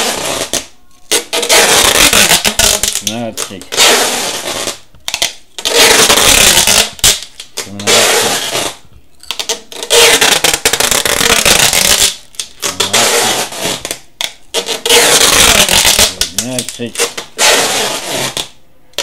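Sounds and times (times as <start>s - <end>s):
packing tape screeching off roll: 0.0s - 19.0s.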